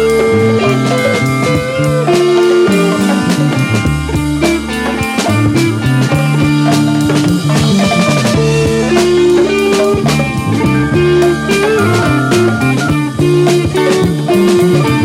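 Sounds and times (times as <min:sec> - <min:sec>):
progressive rock band playing: 0:00.0 - 0:15.0.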